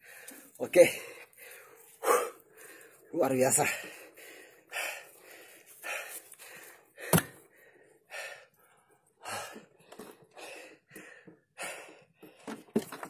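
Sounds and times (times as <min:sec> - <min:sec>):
man breathing hard: 0:00.0 - 0:12.7.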